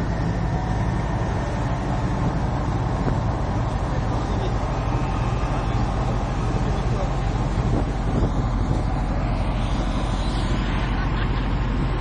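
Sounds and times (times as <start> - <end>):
boat engine droning: 0.0 - 12.0
water wash: 0.0 - 12.0.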